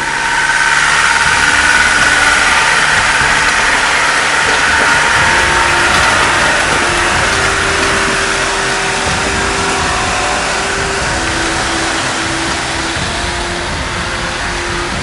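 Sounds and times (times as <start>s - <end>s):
off-road vehicle engines running: 0.0s - 15.0s
river water rushing: 0.0s - 15.0s.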